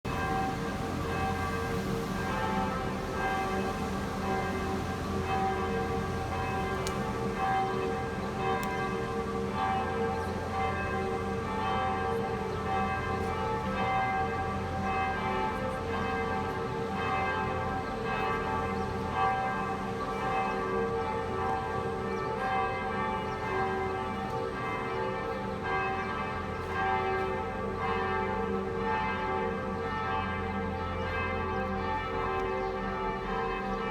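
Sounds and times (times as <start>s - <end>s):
church bells pealing: 0.1s - 33.9s.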